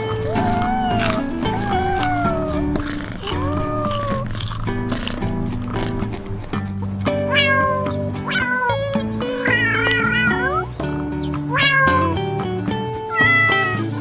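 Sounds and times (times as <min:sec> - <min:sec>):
cat meowing: 0:00.0 - 0:06.6, 0:07.2 - 0:10.7, 0:11.5 - 0:12.2, 0:13.1 - 0:13.9
background music: 0:00.0 - 0:14.0.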